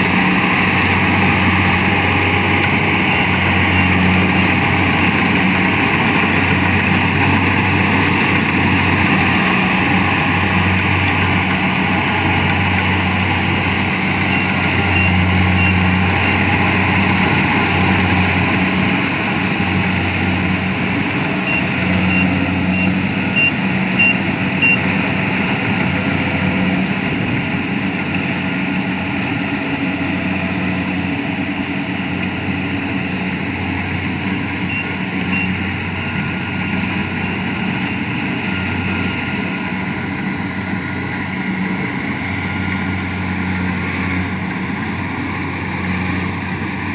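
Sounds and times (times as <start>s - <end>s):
harvester engine drone: 0.0s - 46.9s.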